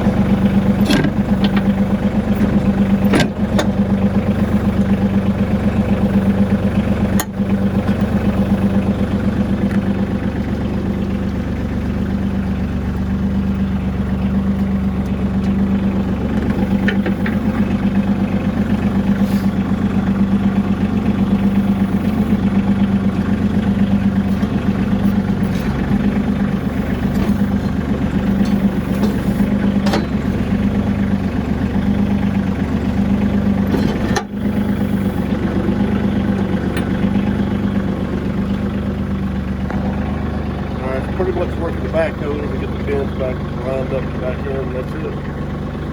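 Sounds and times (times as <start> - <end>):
hydraulics working: 0.0 - 45.9
tractor diesel engine running: 0.0 - 45.9.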